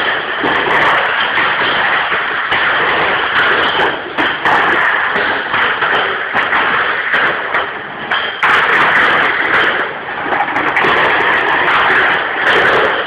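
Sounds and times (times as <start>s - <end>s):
crates knocking together: 0.0s - 13.0s.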